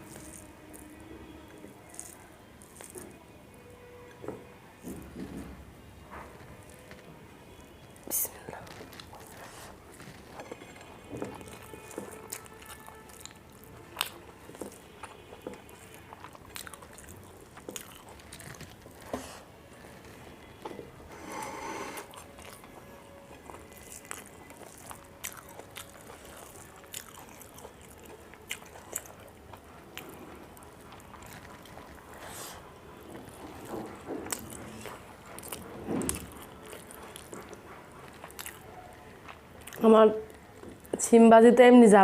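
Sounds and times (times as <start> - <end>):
person chewing food: 0.0 - 3.3, 6.0 - 41.0.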